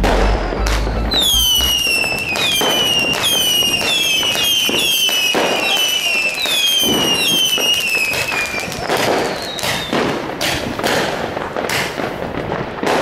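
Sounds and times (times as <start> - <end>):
firework launch pops: 0.0 - 13.0
fireworks whistling: 0.0 - 13.0.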